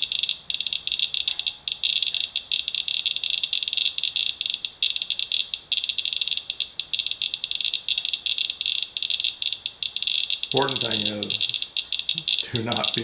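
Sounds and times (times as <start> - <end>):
geiger counter clicking: 0.0 - 13.0.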